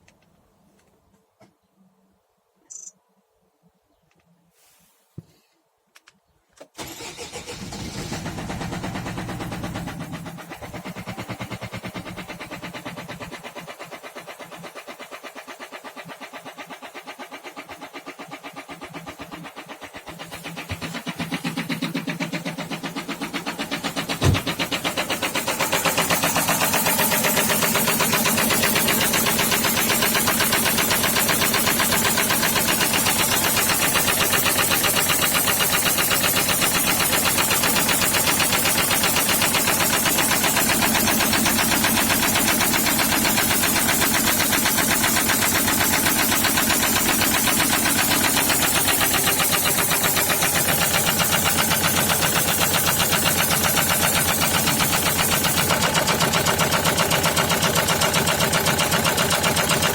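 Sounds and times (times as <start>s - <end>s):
diesel engine idling with knock: 7.6s - 59.9s.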